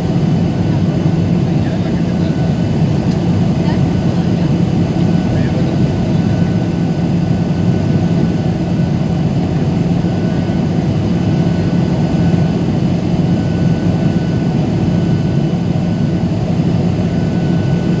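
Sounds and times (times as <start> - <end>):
jet engines and rushing air: 0.0 - 18.0.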